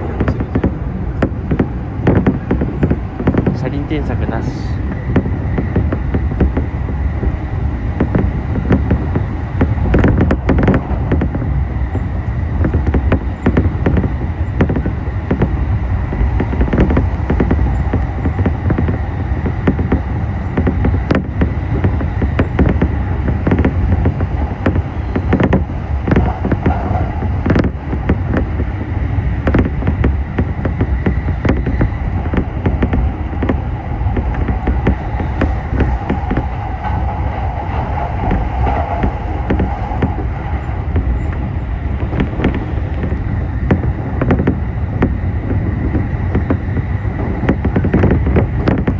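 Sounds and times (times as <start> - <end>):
train wheels rumbling on rails: 0.0 - 48.9
wheels clicking over rail joints: 0.0 - 48.9.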